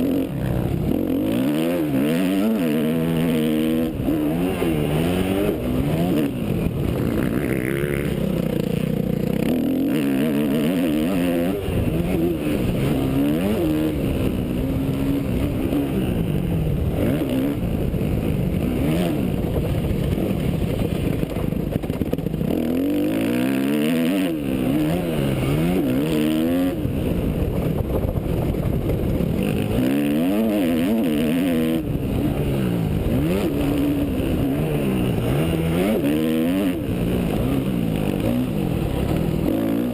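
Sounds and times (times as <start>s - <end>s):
motocross bike engine revving: 0.0s - 21.3s, 22.3s - 39.9s.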